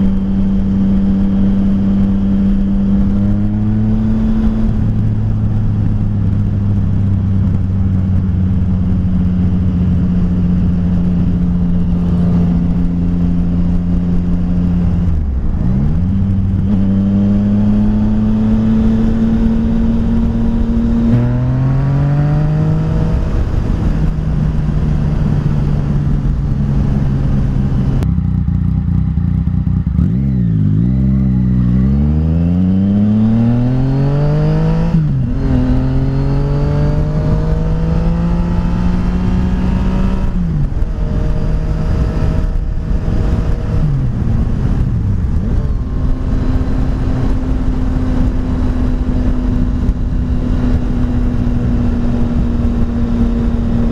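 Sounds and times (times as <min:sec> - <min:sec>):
motorcycle engine accelerating: 0:00.0 - 0:53.9
wind and road noise: 0:00.0 - 0:53.9.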